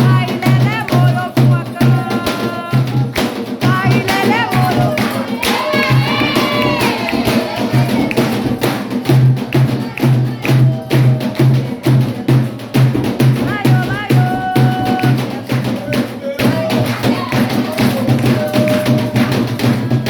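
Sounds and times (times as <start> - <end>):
hand drums beating: 0.0 - 20.0
sharp percussive strikes: 0.0 - 20.0
voices singing a chant: 0.0 - 20.0.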